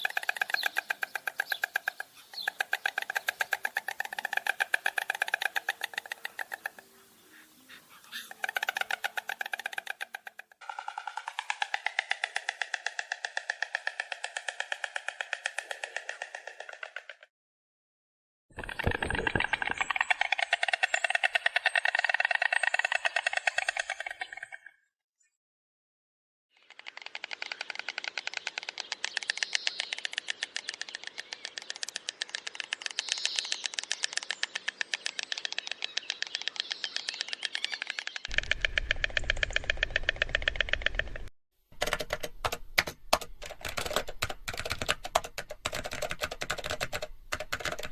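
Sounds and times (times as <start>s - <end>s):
stork clattering its bill: 0.0s - 7.0s, 7.7s - 17.3s, 18.6s - 24.5s, 26.7s - 47.9s.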